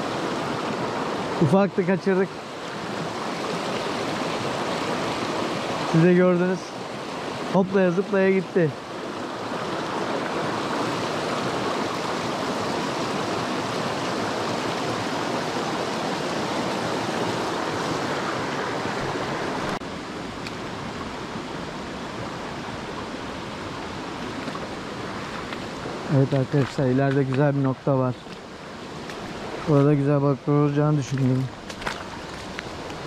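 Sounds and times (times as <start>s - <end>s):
creek water rushing: 0.0s - 33.0s.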